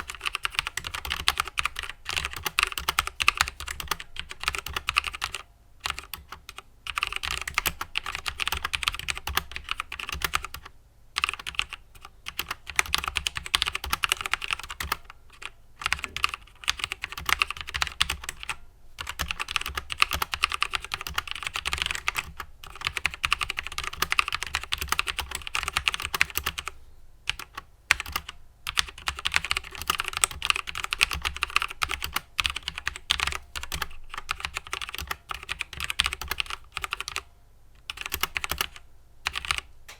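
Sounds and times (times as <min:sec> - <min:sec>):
mechanical keyboard typing: 0:00.0 - 0:37.2, 0:37.8 - 0:39.7.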